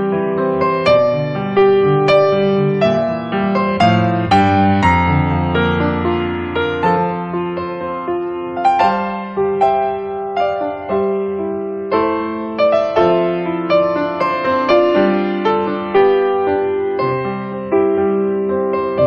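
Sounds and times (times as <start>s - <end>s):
slow gentle piano melody: 0.0s - 19.0s.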